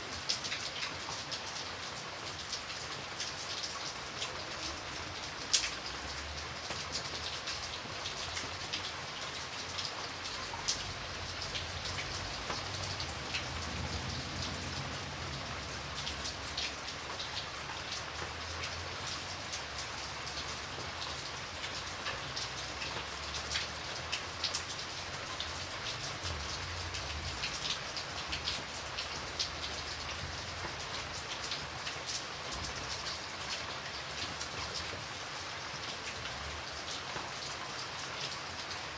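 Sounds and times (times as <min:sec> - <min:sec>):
light rain: 0:00.0 - 0:38.9
raindrops ticking on a surface: 0:00.0 - 0:38.9.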